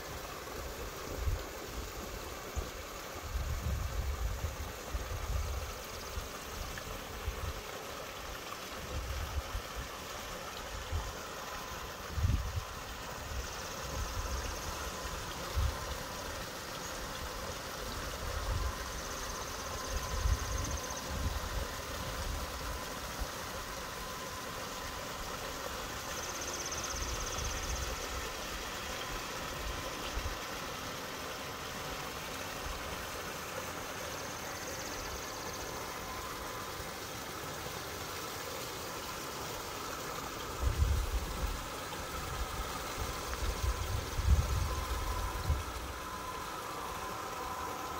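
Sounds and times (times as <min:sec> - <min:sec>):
model train running: 0:00.0 - 0:47.9
small waterfall hissing: 0:00.0 - 0:47.9.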